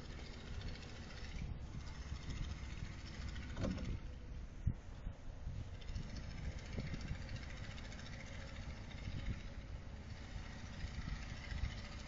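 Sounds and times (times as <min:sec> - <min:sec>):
diesel generator running: 0:00.0 - 0:12.0.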